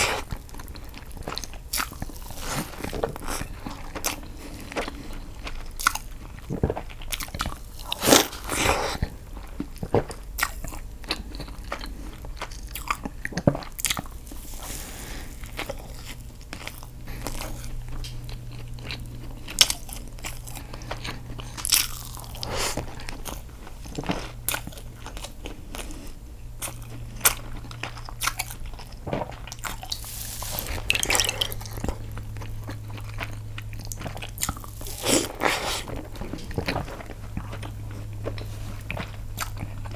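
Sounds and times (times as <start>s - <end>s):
person biting and chewing food: 0.0s - 14.6s, 15.3s - 39.9s
faint low hum: 0.0s - 39.9s.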